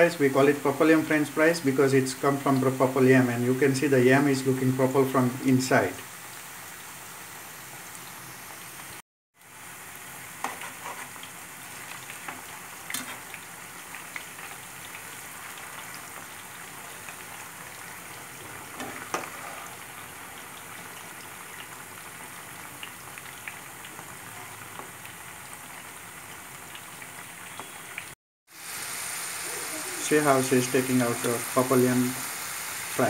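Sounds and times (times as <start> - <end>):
food deep-frying in oil: 0.0 - 33.0.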